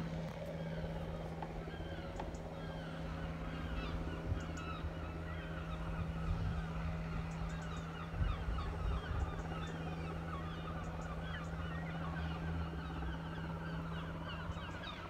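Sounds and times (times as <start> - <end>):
flock of birds calling: 0.0 - 15.0
steady low hum: 0.0 - 15.0.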